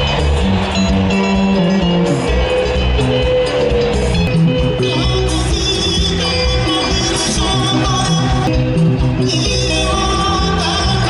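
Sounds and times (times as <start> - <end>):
band music with guitar: 0.0 - 11.0.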